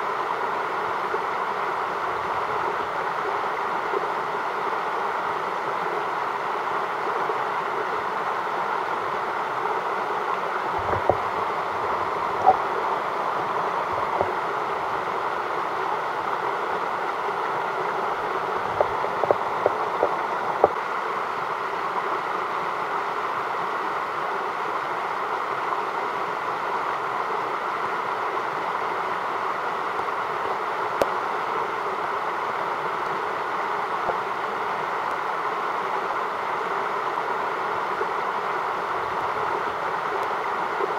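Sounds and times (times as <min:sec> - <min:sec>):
creek water rushing: 0:00.0 - 0:40.9.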